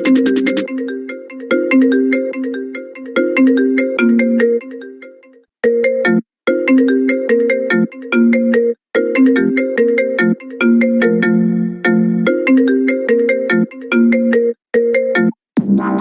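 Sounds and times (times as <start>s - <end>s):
phonk ringtone music: 0.0s - 16.0s.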